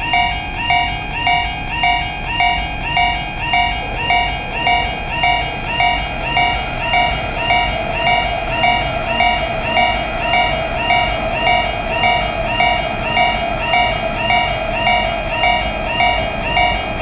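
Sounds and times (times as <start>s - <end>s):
level-crossing warning bell ringing: 0.0s - 17.0s
passing train rushing: 1.6s - 17.0s.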